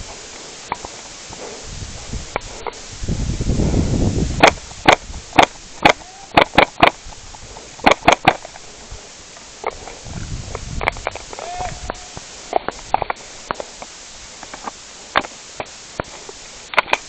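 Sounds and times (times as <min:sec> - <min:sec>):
rustle of movement: 0:00.0 - 0:17.0.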